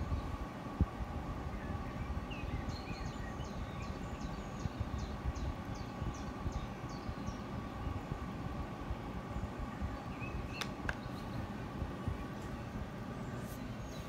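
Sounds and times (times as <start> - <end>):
low outdoor background: 0.0 - 14.0.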